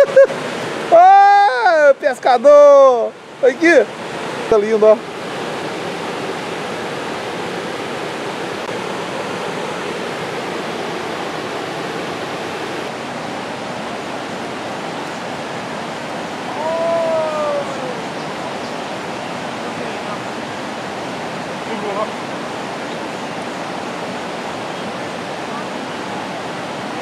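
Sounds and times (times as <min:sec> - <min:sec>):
river rushing: 0:00.0 - 0:27.0.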